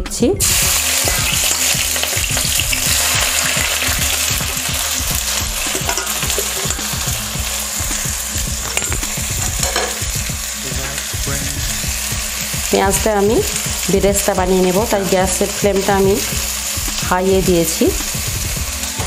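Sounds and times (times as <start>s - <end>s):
onions sizzling in hot oil: 0.4s - 19.0s.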